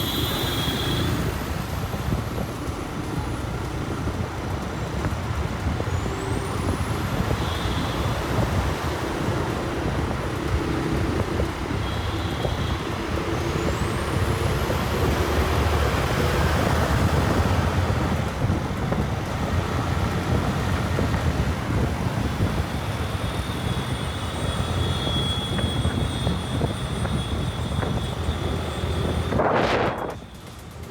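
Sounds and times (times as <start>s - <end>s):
road and wind noise: 0.0s - 30.9s.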